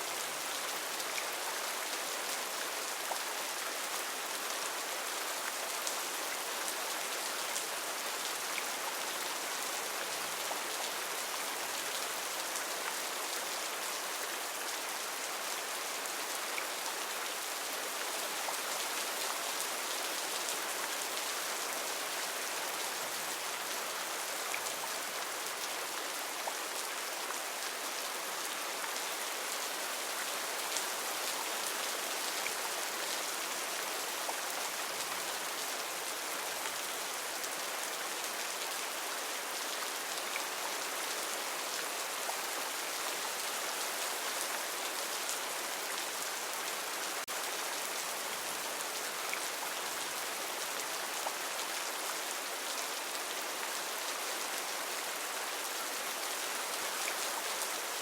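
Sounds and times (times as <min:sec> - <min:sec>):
heavy rain on foliage: 0:00.0 - 0:58.0.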